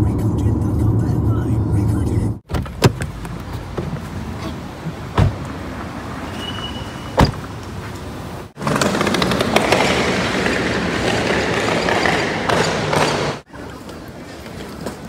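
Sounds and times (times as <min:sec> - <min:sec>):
airport curbside background noise: 0:00.3 - 0:15.0.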